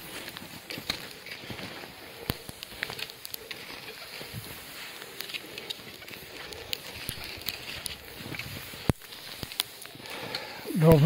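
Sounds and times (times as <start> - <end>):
footsteps on snow: 0.0 - 11.0
freezing rain ticking: 0.0 - 11.0
steady hiss: 0.0 - 11.0.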